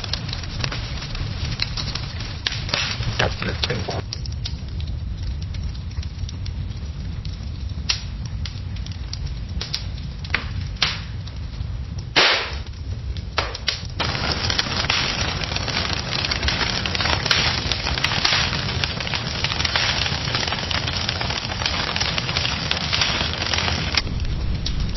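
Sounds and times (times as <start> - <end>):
fire crackling and popping: 0.0 - 24.9.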